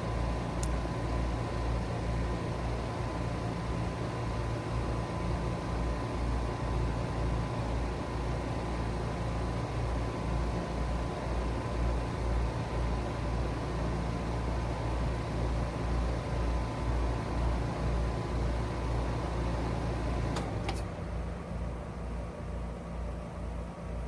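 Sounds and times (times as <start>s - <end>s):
heat pump humming: 0.0s - 24.0s.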